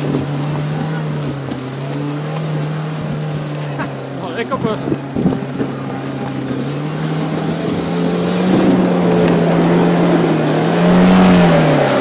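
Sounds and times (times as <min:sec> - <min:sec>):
car engine revving high: 0:00.0 - 0:12.0
wheels spinning in mud: 0:00.0 - 0:12.0.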